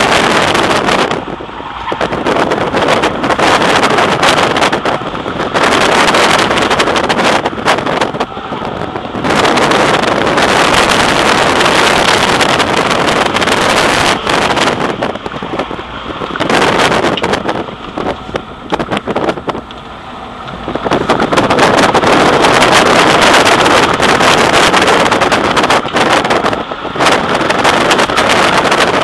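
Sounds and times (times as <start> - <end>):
car engine driven hard: 0.0 - 29.0
wind noise on microphone: 0.0 - 29.0.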